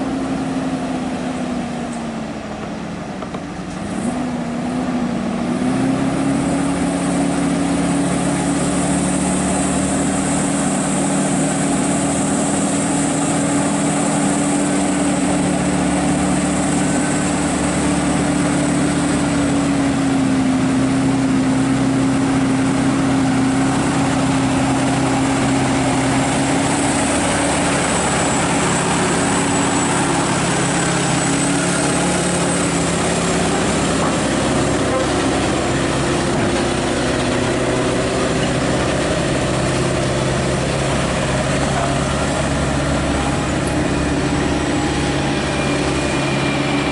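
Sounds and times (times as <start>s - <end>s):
diesel truck engine running: 0.0s - 46.9s.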